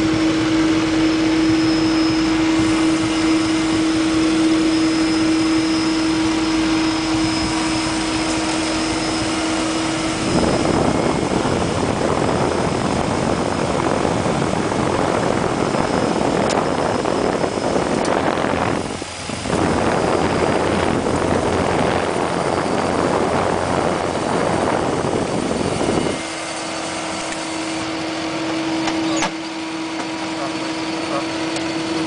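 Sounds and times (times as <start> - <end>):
steady engine hum: 0.0 - 32.0
turboprop engines running: 0.0 - 32.0.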